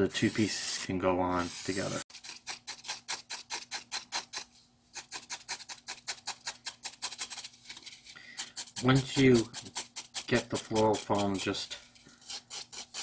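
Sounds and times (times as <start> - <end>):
tool scraping floral foam: 0.0 - 13.0.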